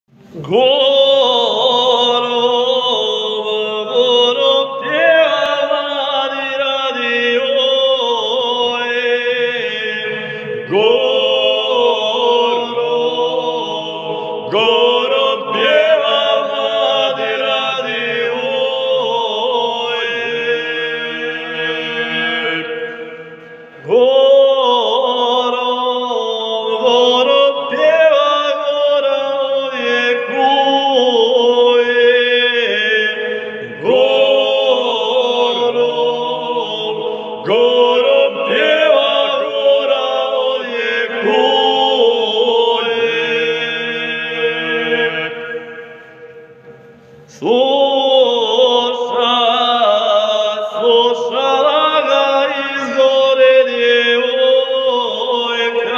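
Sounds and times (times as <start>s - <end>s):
men singing in harmony: 0.2s - 55.9s.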